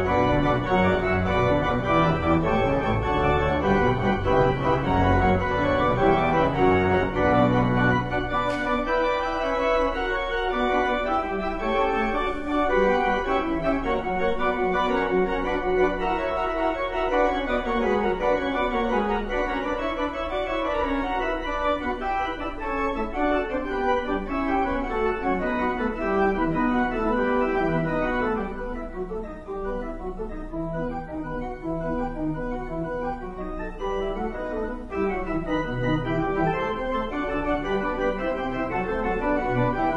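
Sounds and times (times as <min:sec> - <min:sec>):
church organ playing: 0:00.0 - 0:39.9
deep organ pedal notes: 0:00.0 - 0:39.9.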